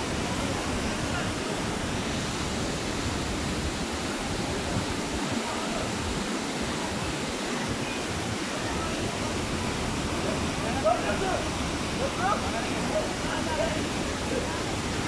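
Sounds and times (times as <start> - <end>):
faint voices: 0.0 - 15.0
waterfall rushing: 0.0 - 15.0.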